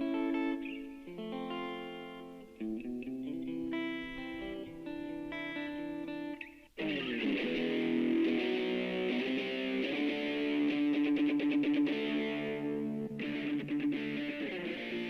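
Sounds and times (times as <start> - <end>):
picked guitar chords: 0.0 - 15.0
strummed guitar chord: 0.0 - 15.0.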